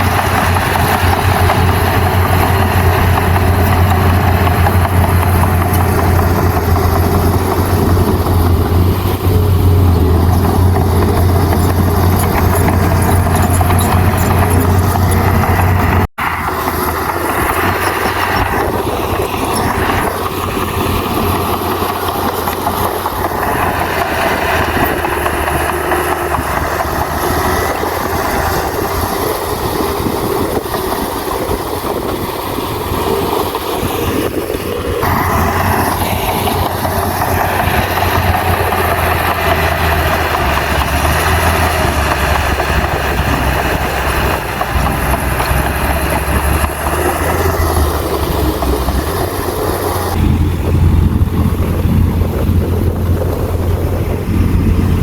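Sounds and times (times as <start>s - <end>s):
heavy diesel machine engine: 0.0s - 55.0s.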